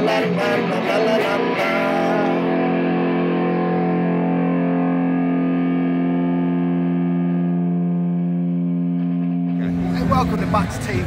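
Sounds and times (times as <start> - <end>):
distorted electric guitar chord: 0.0 - 11.0.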